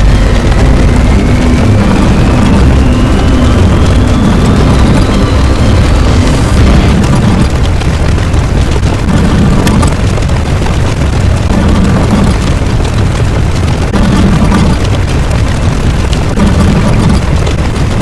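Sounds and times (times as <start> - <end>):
deep rumble: 0.0 - 18.0.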